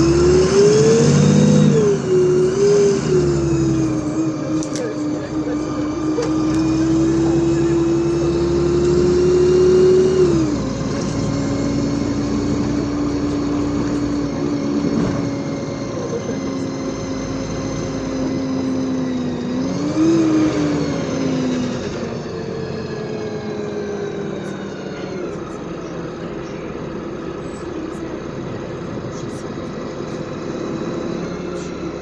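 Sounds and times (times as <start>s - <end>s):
bus engine and gearbox whine: 0.0s - 32.0s
road noise: 0.0s - 32.0s.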